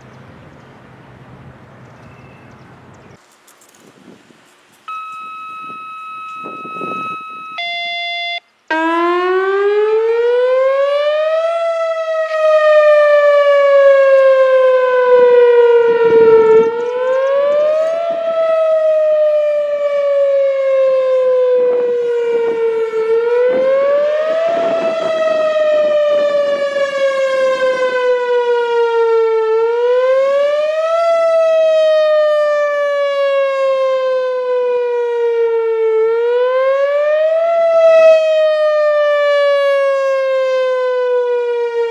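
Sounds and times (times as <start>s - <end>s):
siren wailing: 4.9s - 41.9s.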